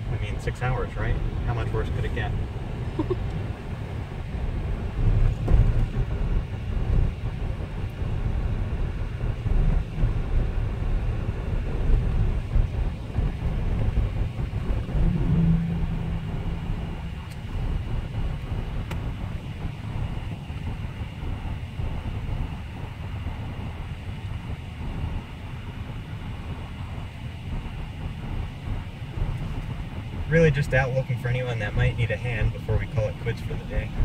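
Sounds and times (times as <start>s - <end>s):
engine and road noise rumble: 0.0s - 34.0s.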